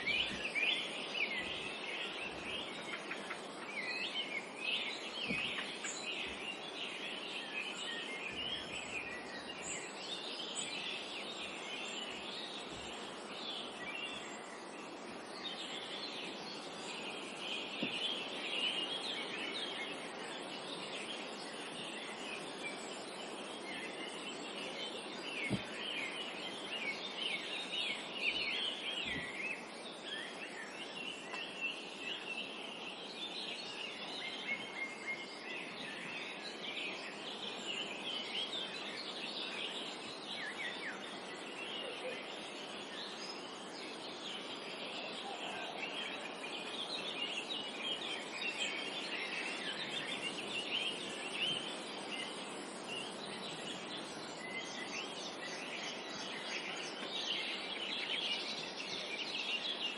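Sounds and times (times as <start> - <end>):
birds chirping in chorus: 0.0 - 59.9
soft steady hiss: 0.0 - 59.9.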